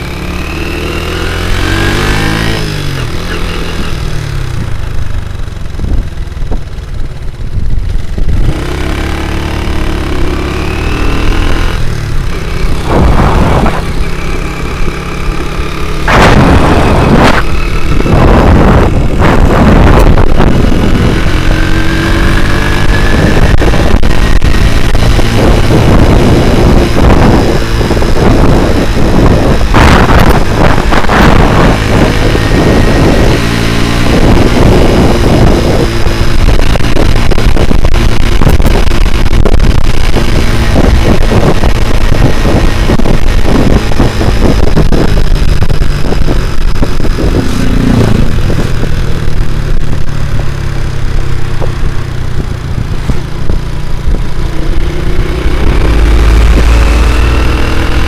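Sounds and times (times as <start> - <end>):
small motorcycle engine: 0.0 - 58.0.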